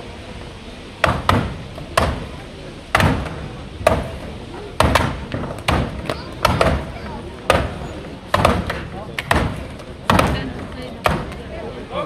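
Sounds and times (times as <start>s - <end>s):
axes chopping wood: 1.0s - 2.3s, 2.9s - 11.4s.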